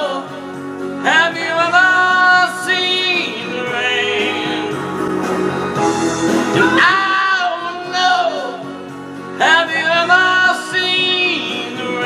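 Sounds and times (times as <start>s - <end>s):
man singing long notes: 0.0s - 4.9s, 6.6s - 8.8s, 9.4s - 12.0s
instrumental accompaniment: 0.0s - 12.0s.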